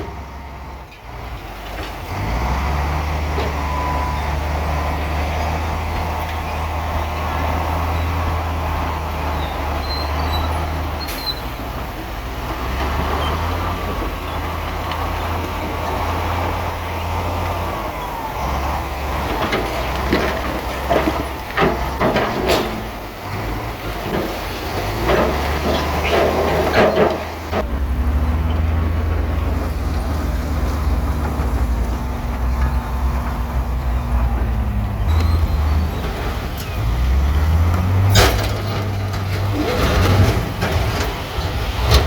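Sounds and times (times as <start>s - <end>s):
heavy diesel machinery running: 0.0s - 42.0s.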